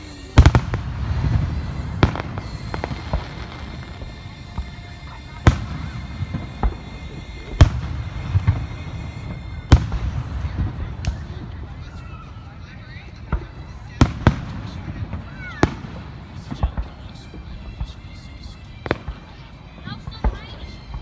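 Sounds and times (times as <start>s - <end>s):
fireworks booming: 0.0s - 21.0s
fireworks crackling: 0.0s - 21.0s
low rolling echo: 0.0s - 21.0s.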